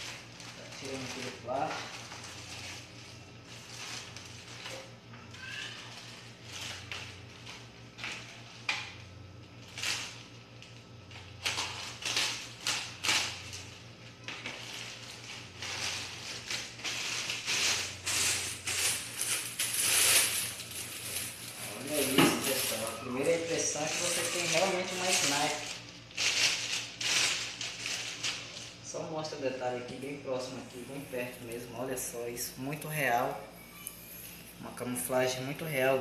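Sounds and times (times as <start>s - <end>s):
plastic wrapping crinkling: 0.0s - 36.0s.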